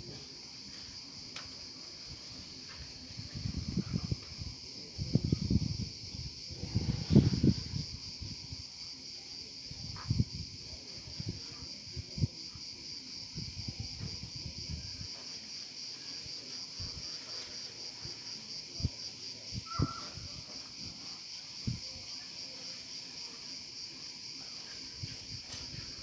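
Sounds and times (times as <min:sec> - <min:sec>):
insect chorus buzzing: 0:00.0 - 0:26.0.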